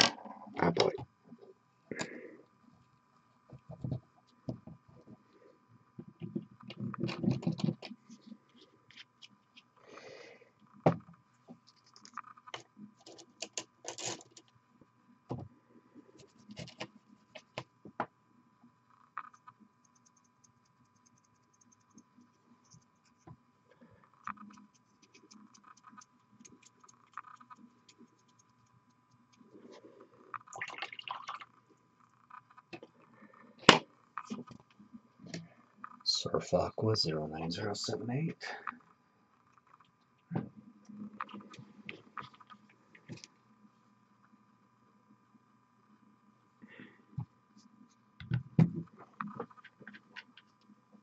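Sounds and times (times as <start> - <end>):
faint high hum: 0.0 - 51.0.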